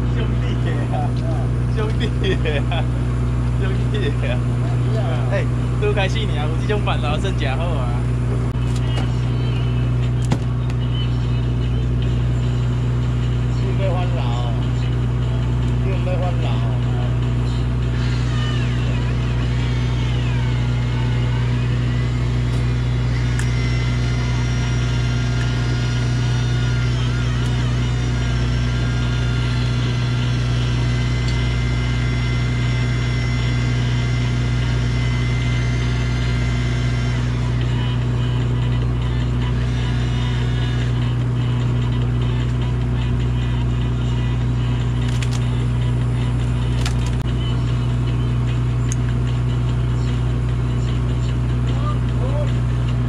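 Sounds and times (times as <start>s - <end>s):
boat engine drone: 0.0s - 53.0s.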